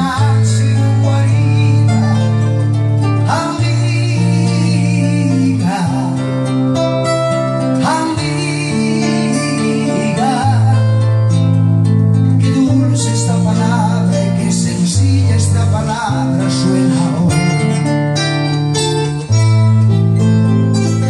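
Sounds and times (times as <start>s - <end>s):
man singing: 0.0s - 11.5s, 12.2s - 19.4s
acoustic guitar strumming: 0.0s - 21.0s.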